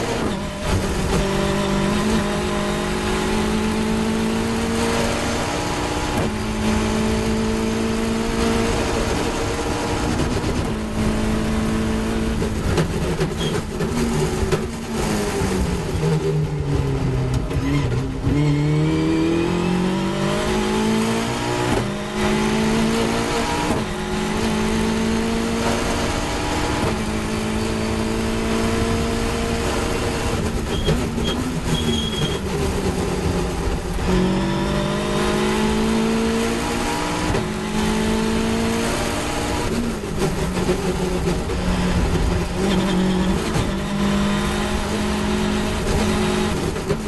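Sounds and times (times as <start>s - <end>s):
racing car engine revving: 0.0s - 47.0s.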